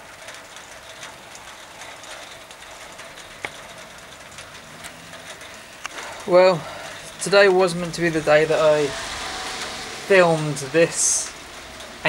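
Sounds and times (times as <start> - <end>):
bicycle hub ticking: 0.0 - 12.0.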